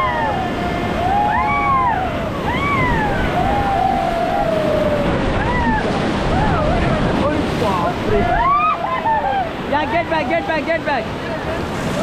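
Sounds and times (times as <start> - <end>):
people whooping and yelling: 0.0 - 7.2, 8.1 - 10.6
whitewater rushing: 0.0 - 12.0.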